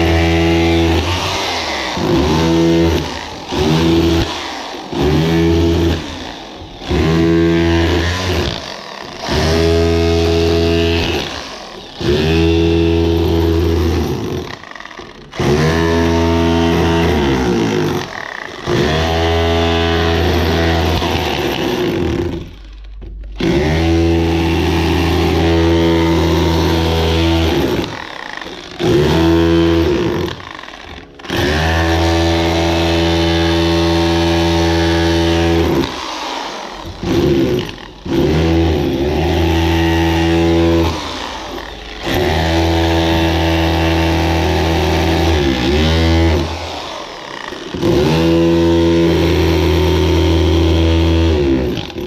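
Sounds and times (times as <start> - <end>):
hammer drill chipping mortar: 0.0 - 52.0.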